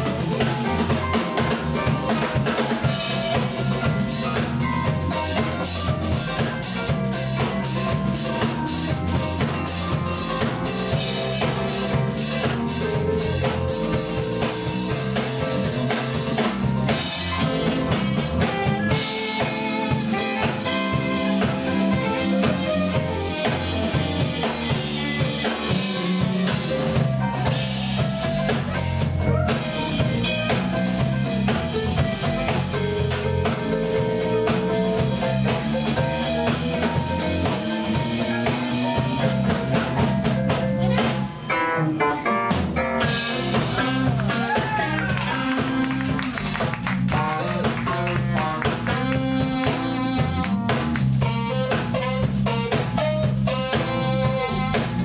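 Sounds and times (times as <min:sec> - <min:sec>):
drum kit beat: 0:00.0 - 0:55.0
electric bass: 0:00.0 - 0:55.0
electric guitar: 0:00.0 - 0:55.0
saxophone: 0:00.0 - 0:55.0.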